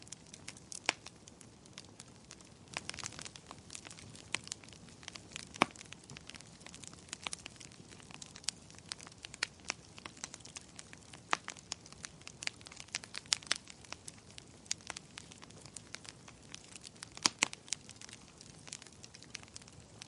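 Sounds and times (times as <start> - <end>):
campfire crackling and popping: 0.0 - 20.0
soft steady hiss: 0.0 - 20.0.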